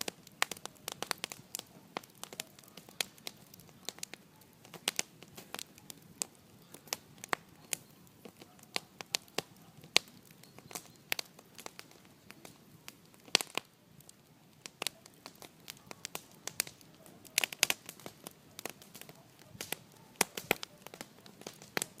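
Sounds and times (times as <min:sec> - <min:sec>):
wood bonfire crackling and popping: 0:00.0 - 0:22.0.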